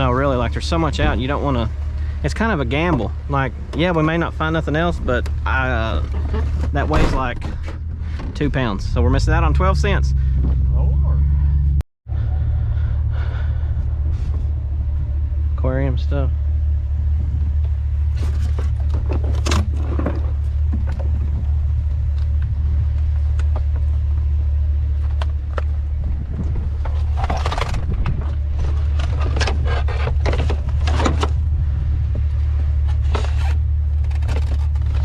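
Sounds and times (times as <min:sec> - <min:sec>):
junk clunking and rattling: 0:00.0 - 0:09.4, 0:10.1 - 0:11.6, 0:16.8 - 0:35.0
vehicle engine idling: 0:00.0 - 0:35.0.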